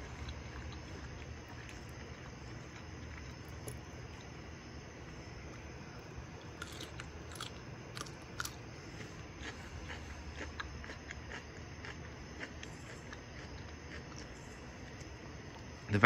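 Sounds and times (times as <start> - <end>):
person chewing crunchy food: 0.0 - 15.8.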